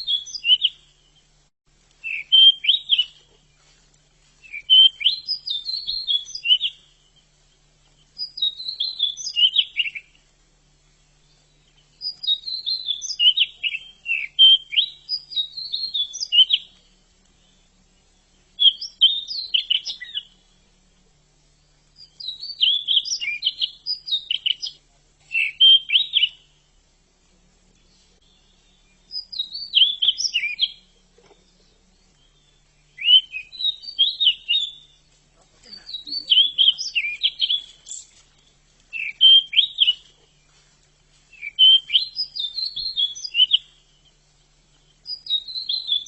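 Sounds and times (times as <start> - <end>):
bird singing high chirping notes: 0.0 - 1.3, 2.0 - 3.2, 4.4 - 7.3, 7.9 - 10.2, 11.2 - 20.6, 21.6 - 26.6, 27.8 - 35.1, 35.7 - 40.1, 41.3 - 44.2, 44.8 - 46.0.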